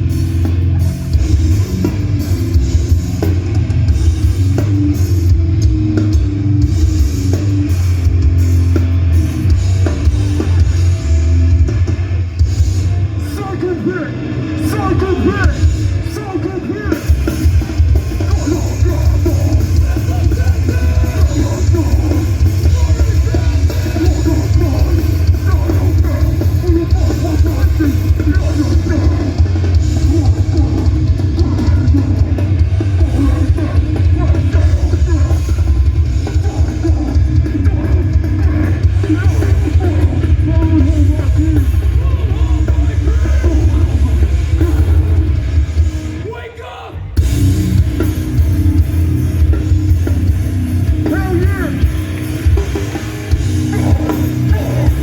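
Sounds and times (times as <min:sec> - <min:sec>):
pounding drums: 0:00.0 - 0:46.5, 0:47.2 - 0:55.0
live metal band playing: 0:00.0 - 0:55.0.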